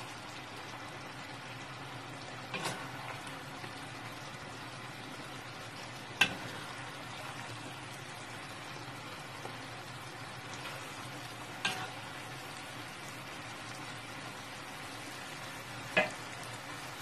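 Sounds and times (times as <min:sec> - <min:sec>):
curry bubbling and sizzling: 0:00.0 - 0:17.0.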